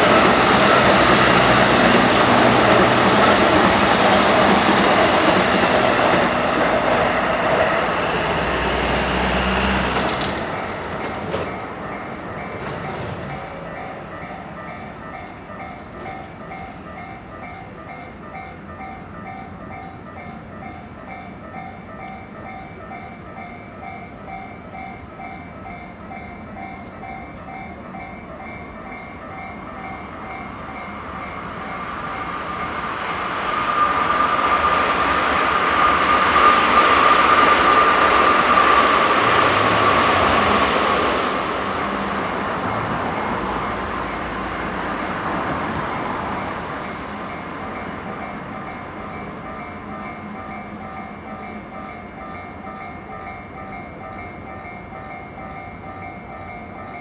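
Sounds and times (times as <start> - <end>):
crossing alarm bell ringing: 0.0 - 35.2, 36.4 - 57.0
train approaching: 0.0 - 57.0
train passing: 0.0 - 57.0.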